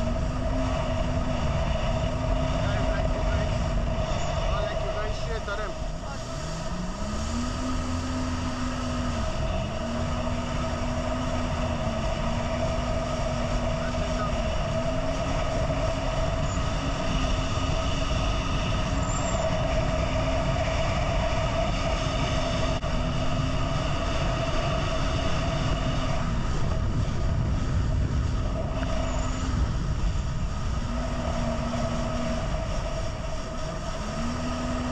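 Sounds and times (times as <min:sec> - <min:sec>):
jet ski engine running: 0:00.0 - 0:34.9
rushing water and wind: 0:00.0 - 0:34.9.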